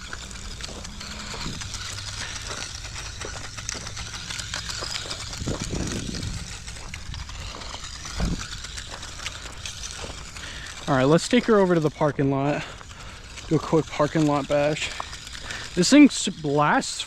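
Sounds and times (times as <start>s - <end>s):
stones crackling under tyres: 0.0s - 17.0s
toy truck motor running: 0.0s - 17.0s.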